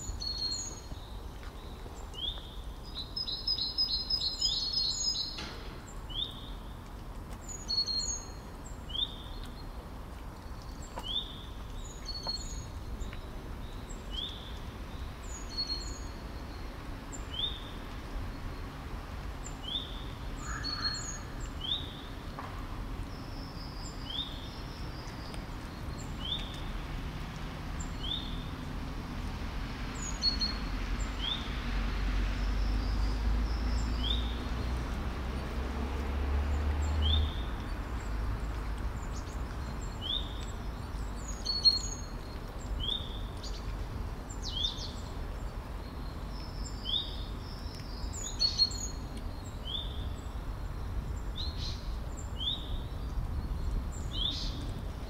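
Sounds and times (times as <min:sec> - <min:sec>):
small birds chirping: 0:00.0 - 0:28.8, 0:32.4 - 0:35.0, 0:36.5 - 0:55.0.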